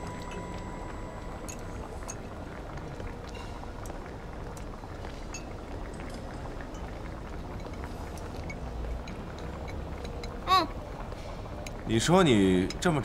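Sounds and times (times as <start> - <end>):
restaurant background noise: 0.0 - 13.0.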